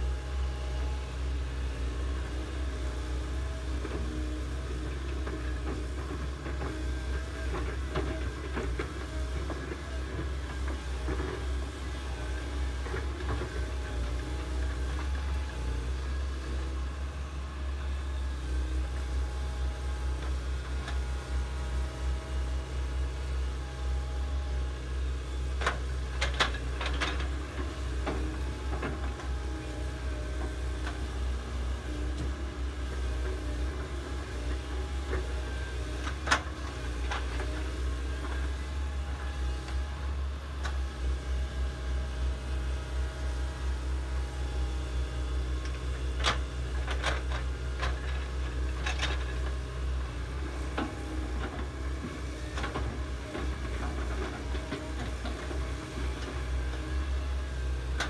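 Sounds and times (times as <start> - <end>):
excavator diesel engines running: 0.0 - 58.0.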